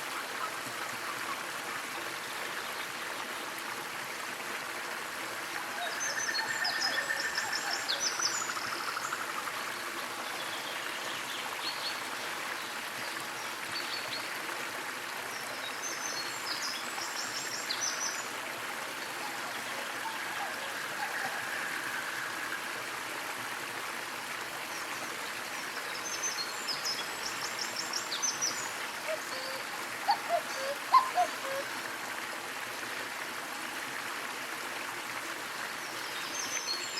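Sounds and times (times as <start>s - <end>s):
small waterfall splashing: 0.0s - 36.9s.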